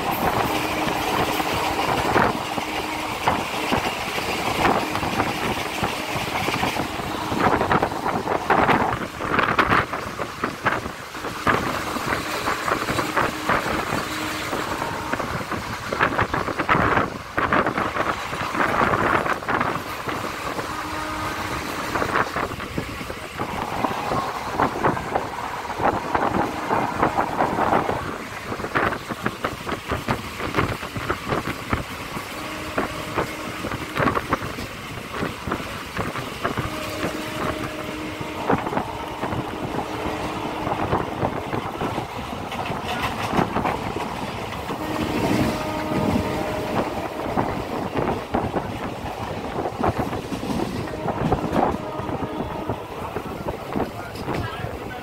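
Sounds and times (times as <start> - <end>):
train rumbling and rattling: 0.0 - 55.0
wind buffeting microphone: 0.0 - 55.0.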